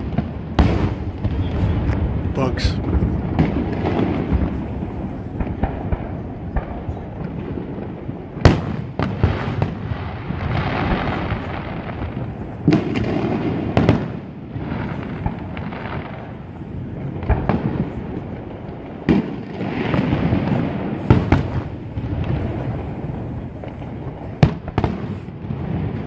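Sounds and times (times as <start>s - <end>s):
firework crackling: 0.0s - 26.0s
firework shells booming: 0.0s - 26.0s.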